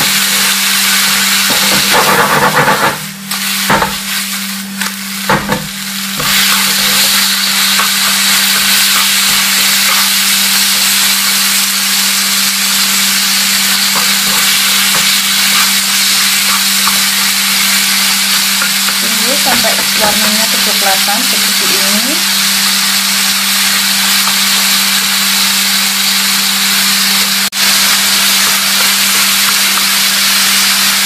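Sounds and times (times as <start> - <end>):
chicken sizzling in a frying pan: 0.0 - 31.0.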